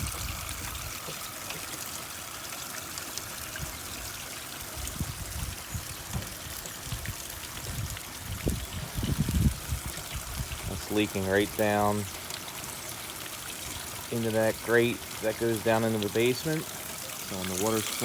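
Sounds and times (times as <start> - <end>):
water running and trickling: 0.0 - 18.0.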